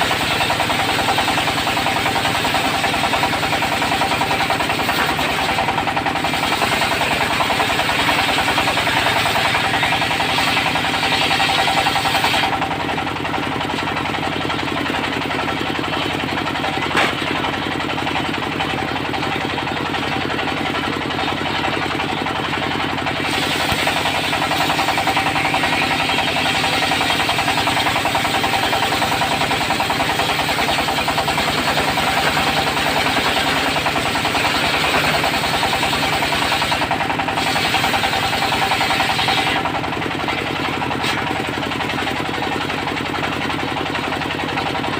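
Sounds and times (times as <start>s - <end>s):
diesel engine knocking: 0.0s - 44.9s.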